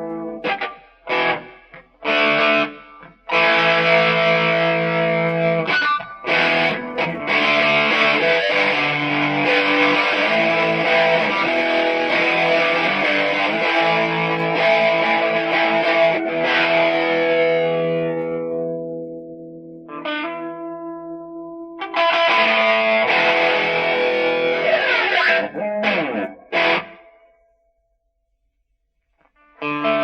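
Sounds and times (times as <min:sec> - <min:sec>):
distorted electric guitar chords: 0:00.0 - 0:27.4, 0:29.4 - 0:30.0.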